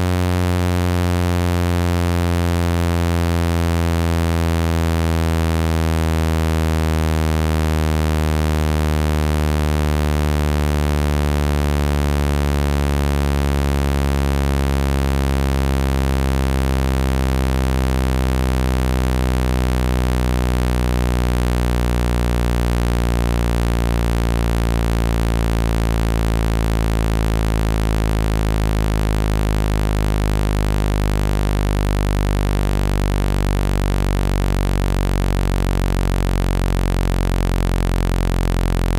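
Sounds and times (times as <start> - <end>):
synthetic low buzzing tone: 0.0 - 38.9.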